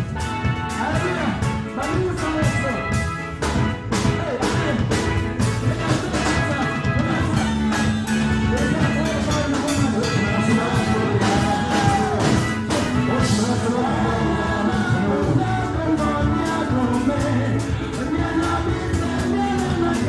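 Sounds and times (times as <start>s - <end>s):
gospel music: 0.0s - 20.0s
drum beat: 3.4s - 20.0s.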